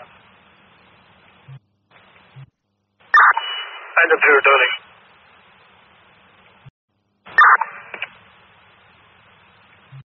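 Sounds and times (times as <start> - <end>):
radio static hiss: 0.0 - 6.7, 7.3 - 10.0.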